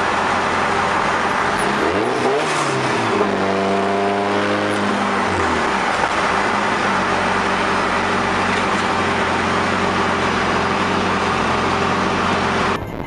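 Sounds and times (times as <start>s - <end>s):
car engine at steady revs: 0.0s - 12.8s
road and mechanical noise: 0.0s - 13.0s.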